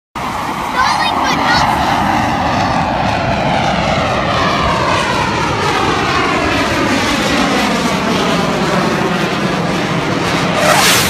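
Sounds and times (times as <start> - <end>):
jet flying overhead: 0.2 - 11.0.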